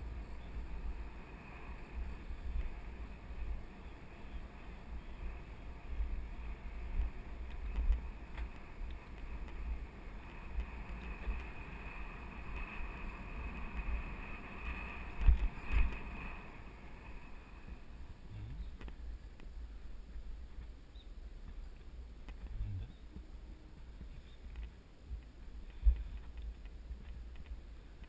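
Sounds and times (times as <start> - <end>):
faint high whine: 0.0 - 28.0
wind buffeting microphone: 0.0 - 28.0.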